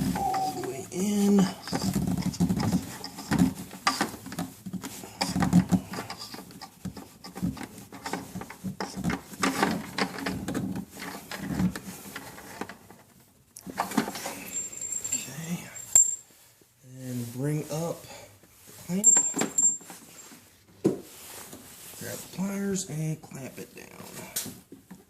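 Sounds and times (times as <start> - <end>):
hose handling rubbing and knocks: 0.0 - 15.1, 18.4 - 25.0.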